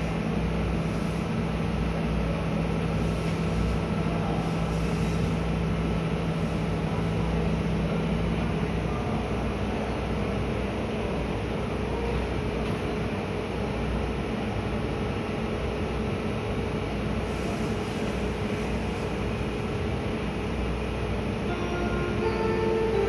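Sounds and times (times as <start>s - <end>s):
train equipment hum and whir: 0.0s - 23.0s.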